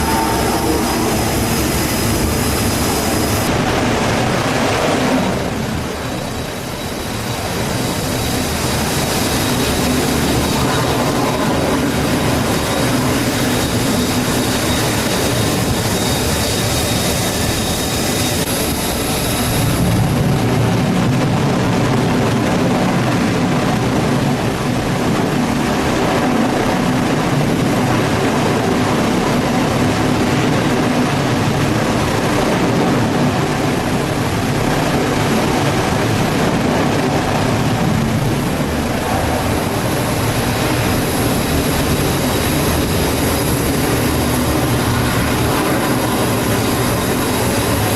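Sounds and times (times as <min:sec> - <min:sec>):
high jet whine: 0:00.0 - 0:47.9
jet engine roar: 0:00.0 - 0:47.9.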